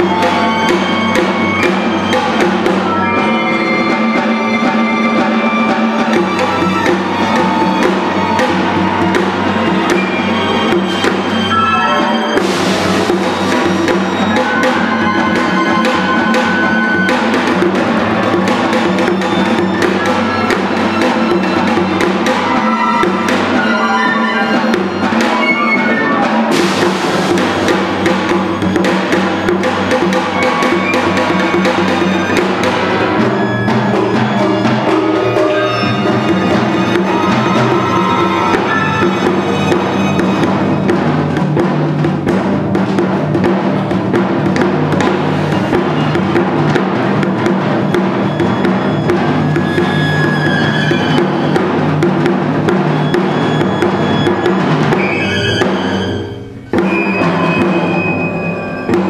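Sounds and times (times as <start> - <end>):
hourglass drum struck rapidly: 0.0 - 56.0.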